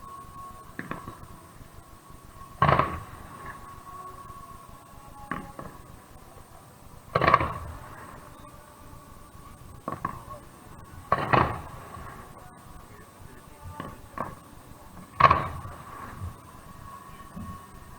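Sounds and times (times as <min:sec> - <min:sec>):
fireworks booming: 0:00.0 - 0:17.9.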